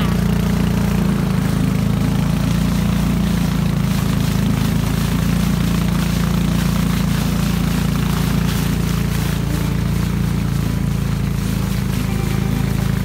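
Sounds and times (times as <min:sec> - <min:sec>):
motorboat engine droning: 0:00.0 - 0:13.0
water rushing from wake: 0:00.0 - 0:13.0.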